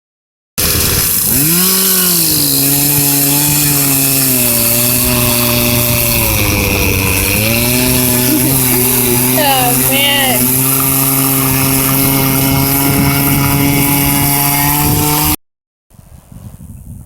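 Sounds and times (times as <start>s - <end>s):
chainsaw revving and cutting: 0.6s - 15.4s.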